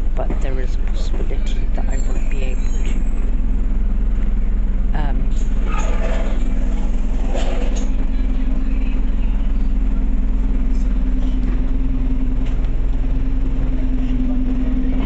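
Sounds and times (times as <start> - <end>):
bus diesel engine droning: 0.0 - 15.0.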